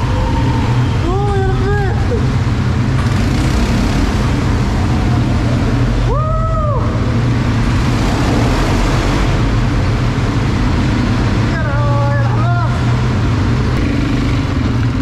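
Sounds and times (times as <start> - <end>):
atv engine running: 0.0 - 6.2, 6.8 - 15.0
constant rushing noise: 0.0 - 15.0.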